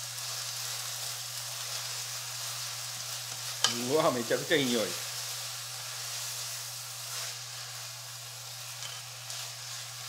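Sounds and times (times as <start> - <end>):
noodles sizzling in a frying pan: 0.0 - 10.0.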